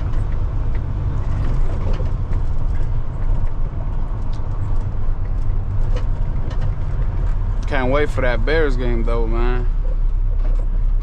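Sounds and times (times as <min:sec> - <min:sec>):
light rattles and clicks: 0:00.0 - 0:11.0
truck engine and road drone: 0:00.0 - 0:11.0.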